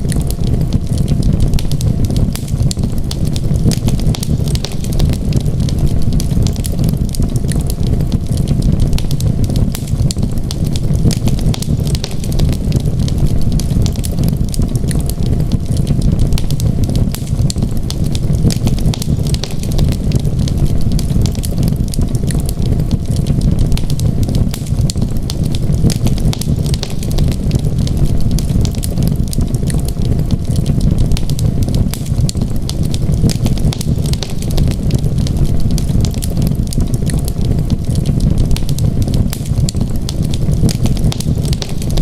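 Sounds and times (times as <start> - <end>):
steady low rumble: 0.0 - 42.0
wood fire crackling and popping: 0.0 - 42.0.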